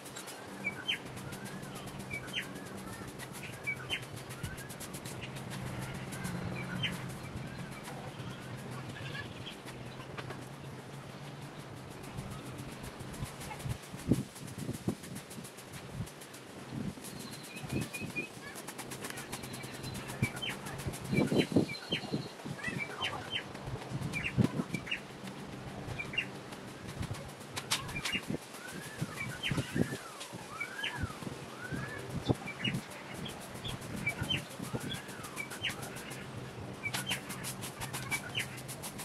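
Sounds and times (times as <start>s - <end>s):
birds chirping: 0.0s - 14.2s, 16.1s - 39.0s.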